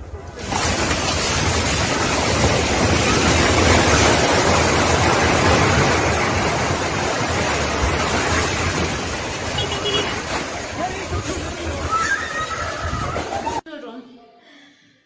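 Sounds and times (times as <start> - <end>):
falling concrete and debris: 0.0 - 13.6.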